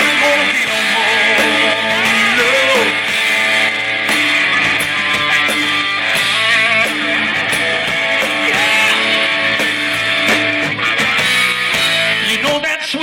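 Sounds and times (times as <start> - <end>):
steady drum beat: 0.0 - 12.9
rock guitar: 0.0 - 13.0.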